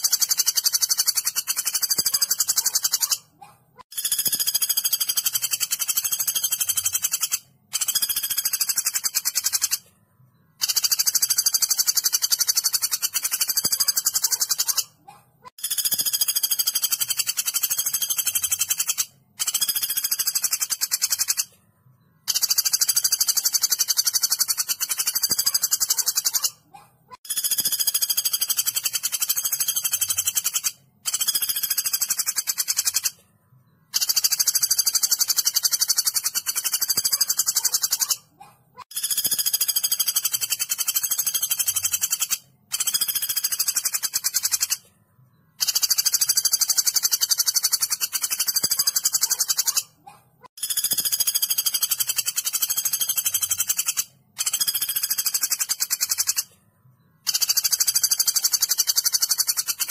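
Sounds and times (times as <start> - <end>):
woodpecker rattling call: 0.0 - 3.3, 3.9 - 9.8, 10.6 - 21.5, 22.2 - 26.6, 27.2 - 33.2, 33.9 - 44.9, 45.6 - 56.5, 57.2 - 59.9.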